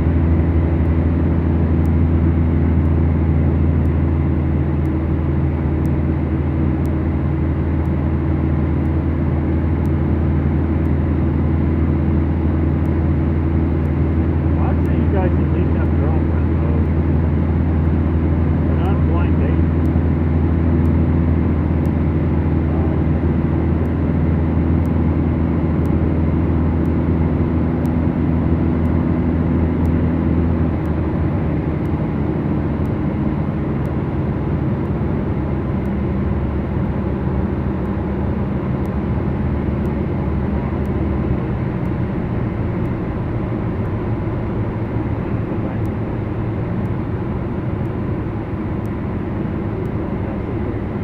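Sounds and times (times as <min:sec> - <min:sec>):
aircraft engines from inside cabin: 0:00.0 - 0:51.0.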